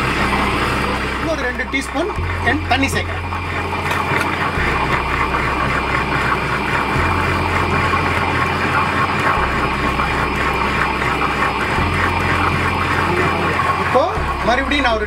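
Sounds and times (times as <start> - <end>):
wet grinder running: 0.0 - 15.0.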